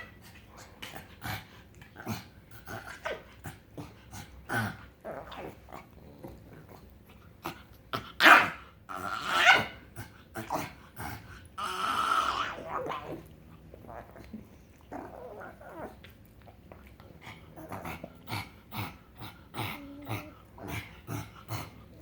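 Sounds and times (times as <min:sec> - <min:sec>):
dog making odd vocal noises: 0:00.0 - 0:22.0.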